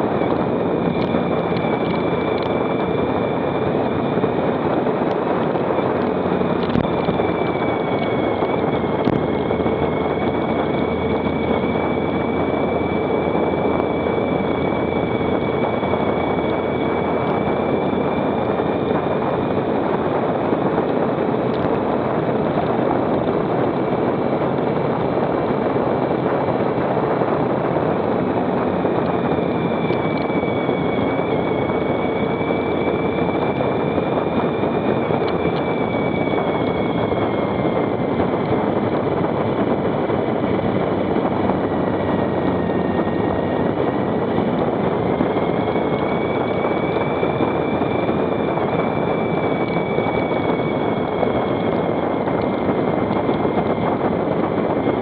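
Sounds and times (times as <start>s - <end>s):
motorcycle engine hum: 0.0s - 55.0s
wind and road noise: 0.0s - 55.0s.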